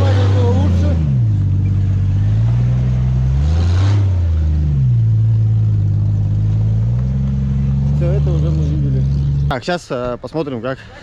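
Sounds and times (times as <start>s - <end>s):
vehicle engine revving: 0.0s - 9.6s.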